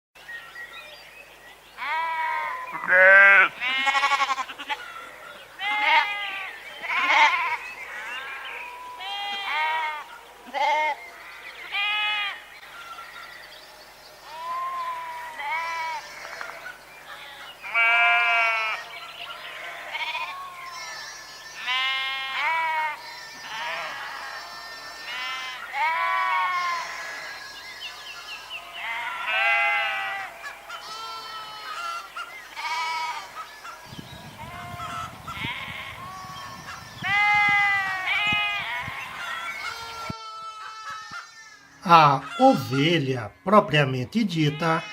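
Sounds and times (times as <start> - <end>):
sheep bleating: 1.8 - 4.9, 5.6 - 11.0, 11.6 - 12.4, 14.3 - 27.6, 28.6 - 33.4, 34.4 - 44.9.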